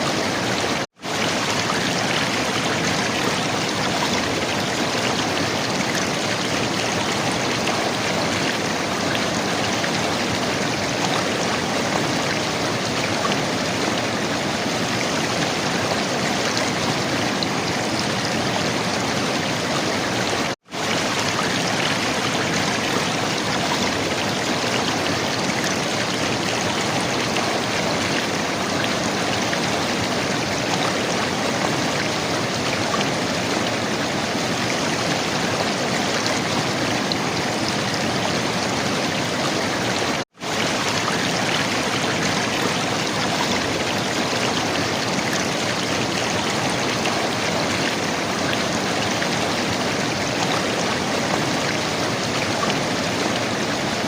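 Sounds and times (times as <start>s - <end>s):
river water flowing and gurgling: 0.0s - 54.0s.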